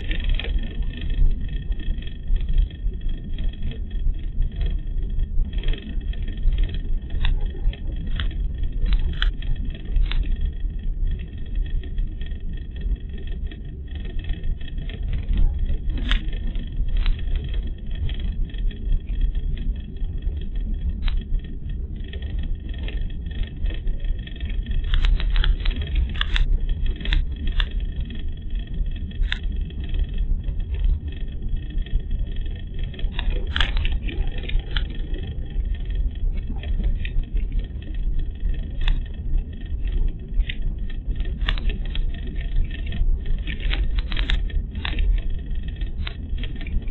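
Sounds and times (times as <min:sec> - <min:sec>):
sharp clicks and knocks: 0:05.6 - 0:46.9.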